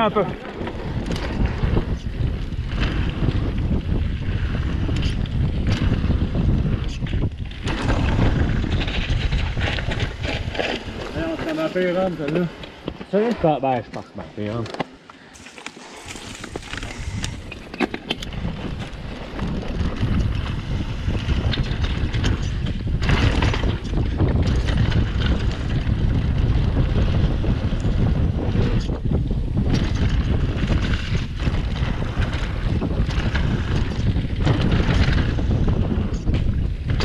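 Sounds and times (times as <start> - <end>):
wind buffeting microphone: 0.0 - 14.7, 15.3 - 37.0
bike rumbling and rattling: 0.0 - 37.0.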